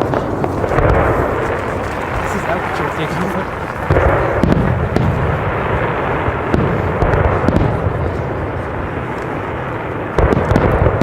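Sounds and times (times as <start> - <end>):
firework sharp cracks: 0.0 - 11.0
rumble of firework bursts: 0.0 - 11.0.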